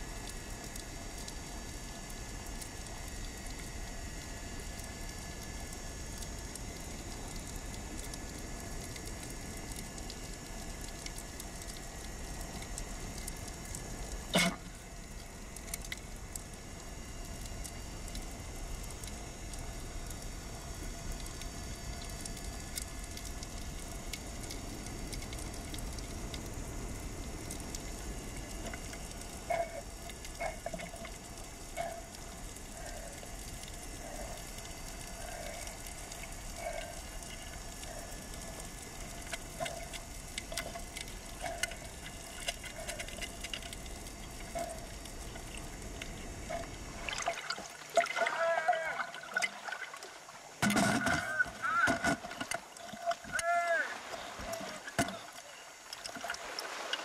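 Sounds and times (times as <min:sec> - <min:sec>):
underwater crackling hiss: 0:00.0 - 0:57.0.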